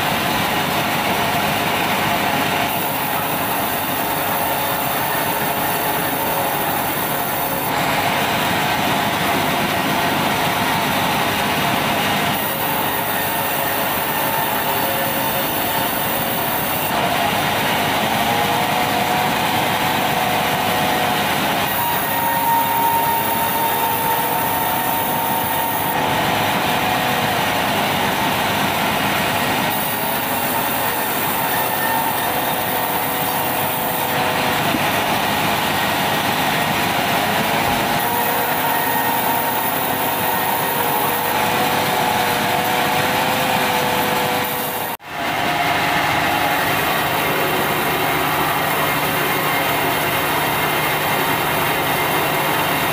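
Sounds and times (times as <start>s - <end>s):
band saw cutting timber: 0.0s - 52.9s.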